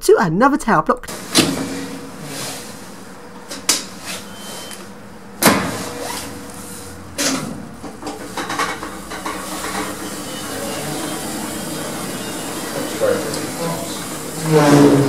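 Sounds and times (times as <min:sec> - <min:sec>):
lift machinery hum: 0:01.1 - 0:15.0.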